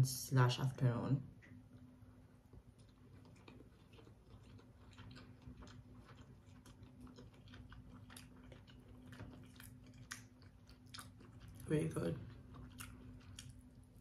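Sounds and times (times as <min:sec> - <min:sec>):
steady low hum: 0:00.0 - 0:14.0
faint chewing: 0:01.4 - 0:14.0.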